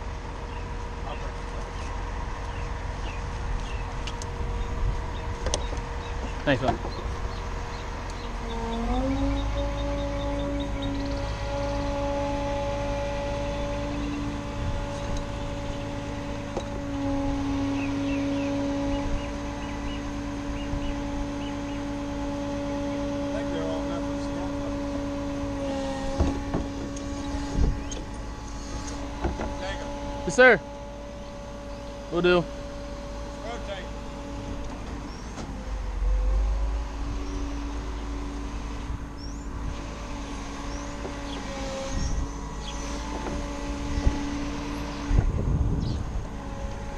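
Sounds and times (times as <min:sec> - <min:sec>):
hydraulics humming: 0:00.0 - 0:46.9.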